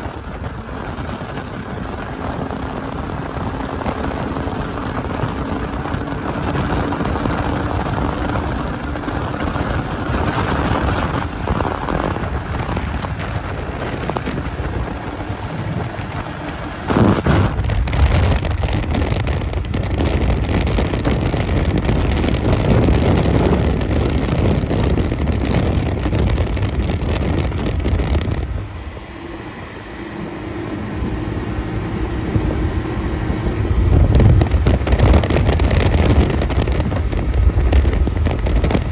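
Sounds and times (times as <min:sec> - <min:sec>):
snowmobile engine running: 0:00.0 - 0:38.9
wind on microphone: 0:00.0 - 0:38.9.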